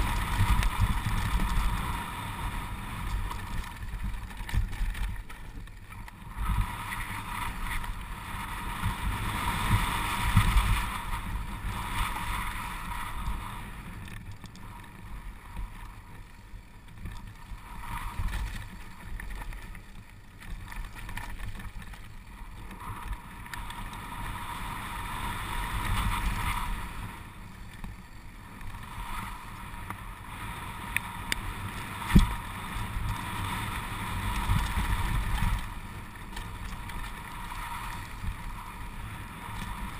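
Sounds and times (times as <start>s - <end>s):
bike tyres rattling on stones: 0.0s - 39.9s.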